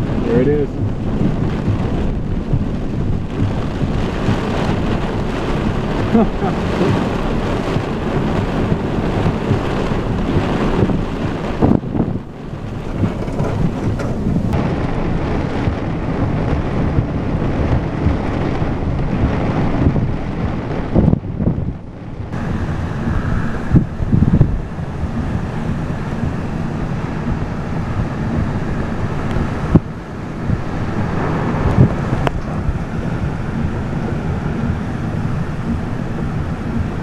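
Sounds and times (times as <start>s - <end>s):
gusty wind buffeting microphone: 0.0s - 37.0s
rain: 0.0s - 37.0s.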